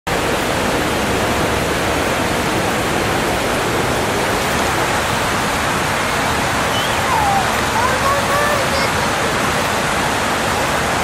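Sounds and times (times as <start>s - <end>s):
river water rushing: 0.1s - 11.0s.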